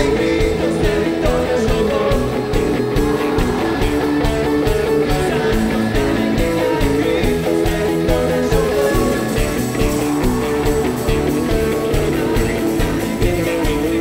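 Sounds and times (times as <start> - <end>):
drums steady beat: 0.0 - 14.0
guitars: 0.0 - 14.0.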